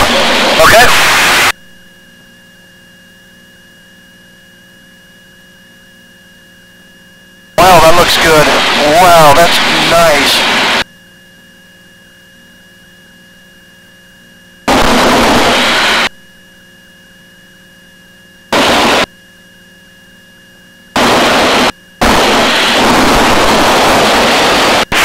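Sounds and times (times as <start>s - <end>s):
faint electrical hum: 0.0s - 24.8s.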